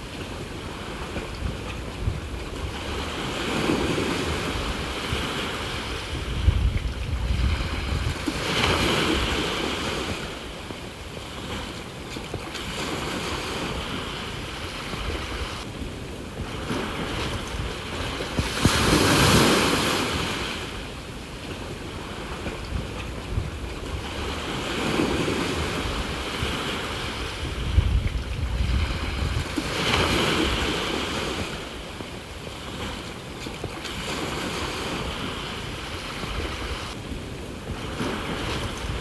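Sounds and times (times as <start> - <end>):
sea waves breaking ashore: 0.0 - 39.0
wind rumbling on microphone: 0.0 - 39.0.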